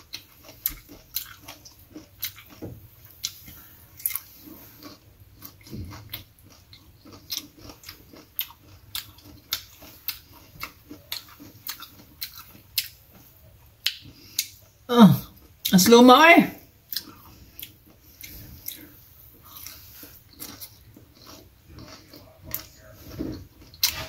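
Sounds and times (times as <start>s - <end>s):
wet chewing and lip smacking: 0.0s - 15.7s, 16.6s - 24.0s.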